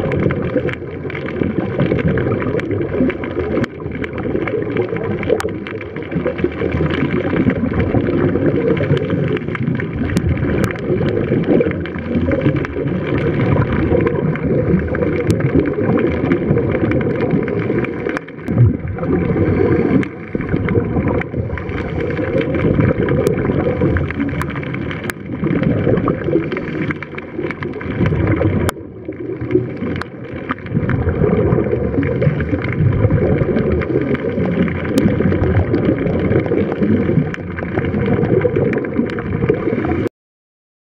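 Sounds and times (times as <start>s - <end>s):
divers exhaling bubbles: 0.0s - 40.1s
underwater gurgling wash: 0.0s - 40.1s.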